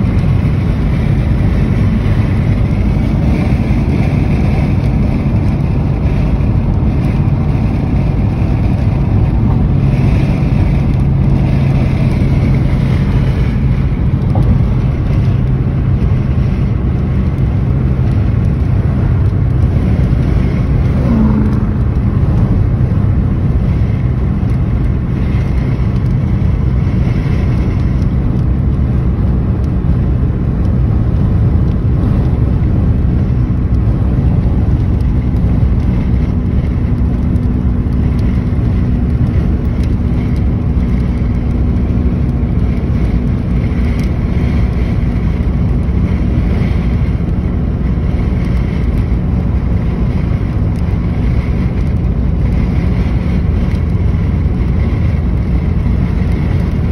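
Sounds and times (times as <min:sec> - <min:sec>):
car road noise from inside: 0:00.0 - 0:56.9.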